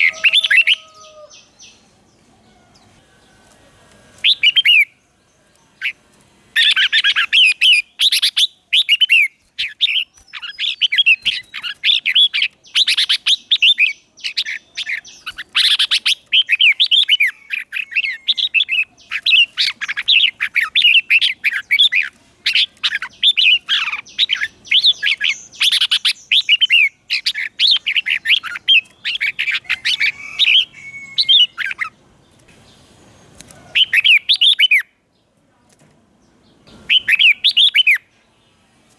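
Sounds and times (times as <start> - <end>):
bulbul singing: 0.0 - 35.0, 36.6 - 38.6.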